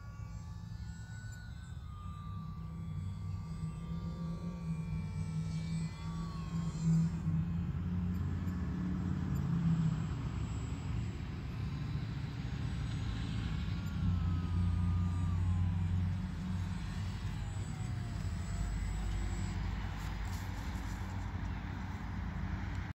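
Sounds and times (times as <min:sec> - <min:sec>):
electric motor whine: 0:00.0 - 0:22.9.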